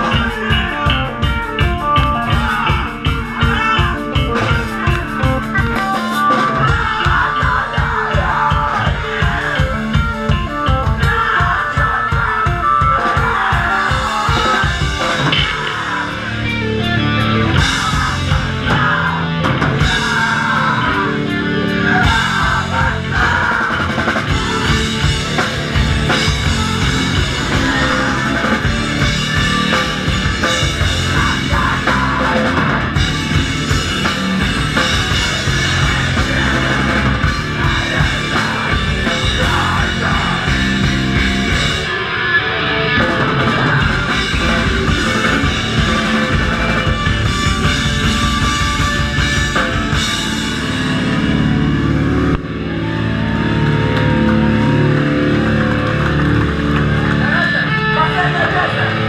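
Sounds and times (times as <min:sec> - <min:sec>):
drum kit beat: 0:00.0 - 0:42.0, 0:42.9 - 0:52.7
bass guitar: 0:00.0 - 0:59.0
electric guitars: 0:00.0 - 0:59.0.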